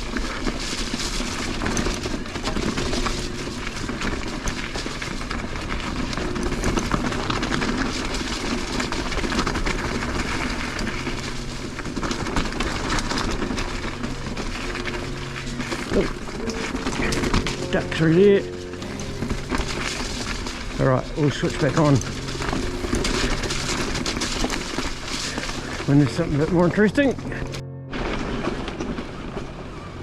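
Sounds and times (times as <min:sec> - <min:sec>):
bike rattling: 0:00.0 - 0:29.6.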